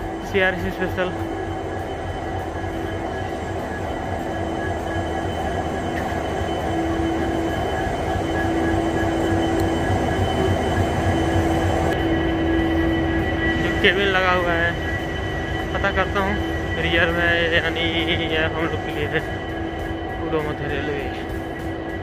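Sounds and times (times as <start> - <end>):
diesel locomotive idling: 0.0 - 22.0.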